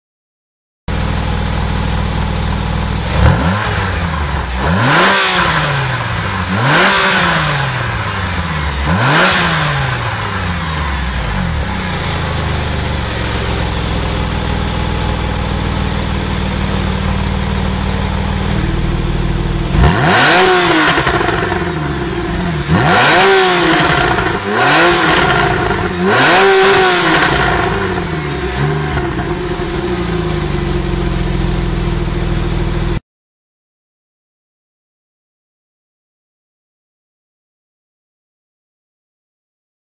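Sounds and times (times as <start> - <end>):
car engine idling and revving: 0.9 - 33.0.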